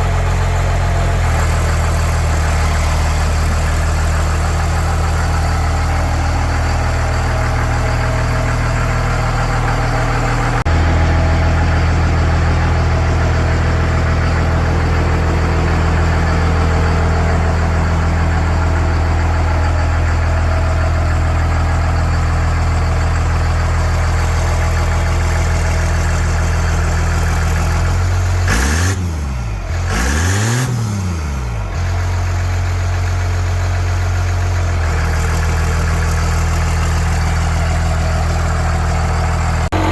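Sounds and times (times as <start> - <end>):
diesel engine idling and revving: 0.0 - 39.9.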